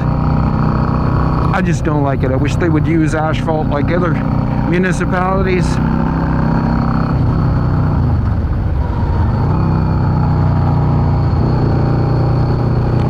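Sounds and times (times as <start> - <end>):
motorcycle engine revving: 0.0 - 13.0
road and wind noise: 0.0 - 13.0.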